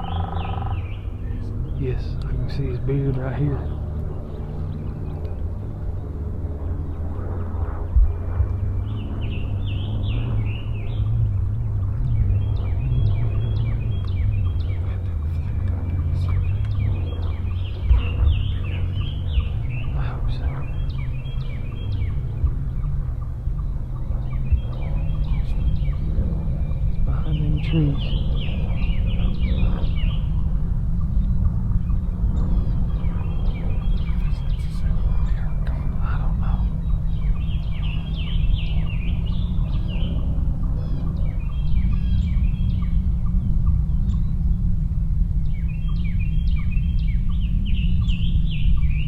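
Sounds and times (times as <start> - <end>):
songbirds chirping and singing: 0.0 - 49.0
steady low rumble: 0.0 - 49.0.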